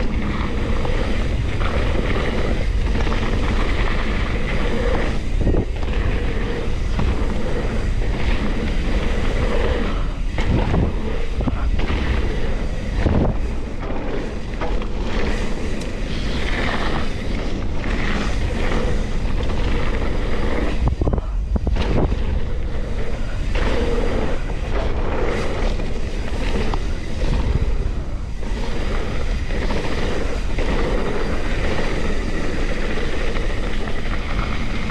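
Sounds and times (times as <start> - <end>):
bike rattling over bumps: 0.0 - 34.9
tyres running over dirt: 0.0 - 34.9
wind rumbling on microphone: 0.0 - 34.9.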